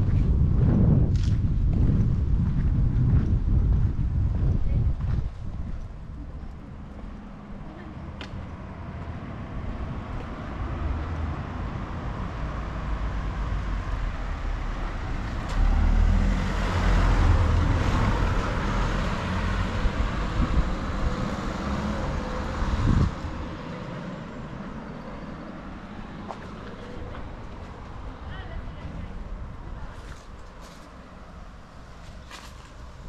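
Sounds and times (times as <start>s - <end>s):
road vehicle passing close: 6.2s - 33.0s.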